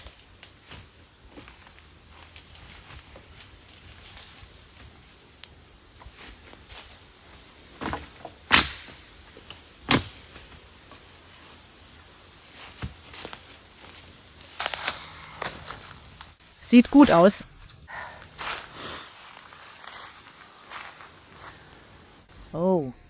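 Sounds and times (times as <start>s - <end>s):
rustling and crackling of kindling: 0.0s - 22.3s.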